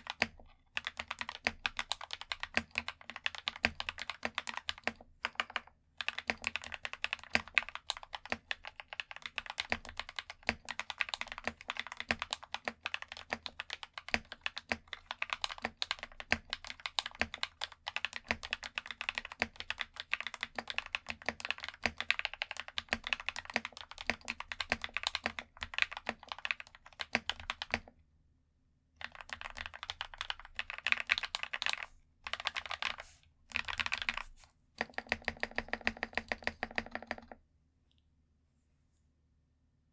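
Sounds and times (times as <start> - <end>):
fast typing on mechanical keyboard: 0.0 - 27.9, 29.0 - 37.4.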